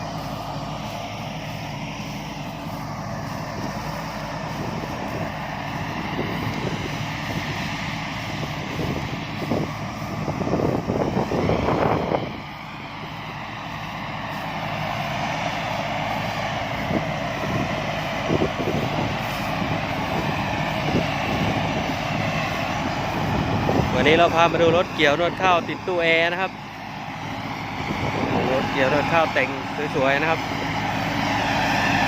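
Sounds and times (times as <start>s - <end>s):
combine harvester engine running: 0.0s - 32.0s.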